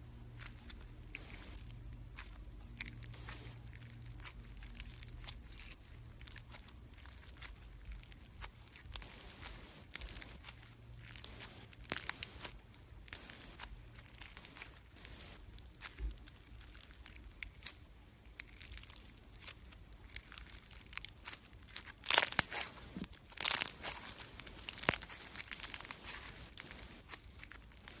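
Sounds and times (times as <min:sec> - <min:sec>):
slime crackling and popping: 0:00.4 - 0:28.0.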